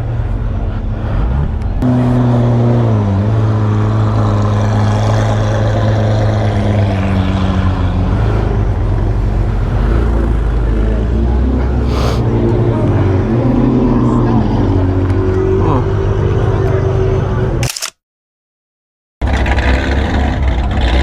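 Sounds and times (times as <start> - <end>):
car engine droning: 0.0 - 17.6
crowd noise: 0.0 - 17.7.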